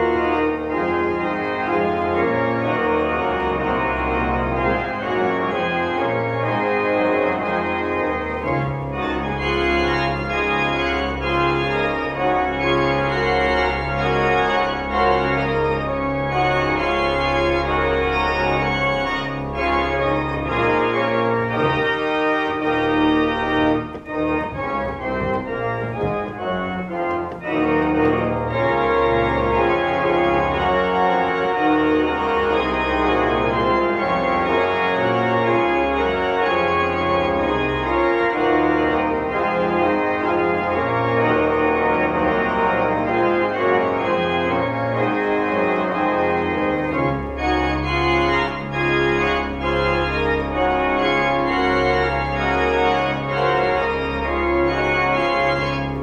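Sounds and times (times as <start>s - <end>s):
organ playing sustained chords: 0.0s - 56.0s.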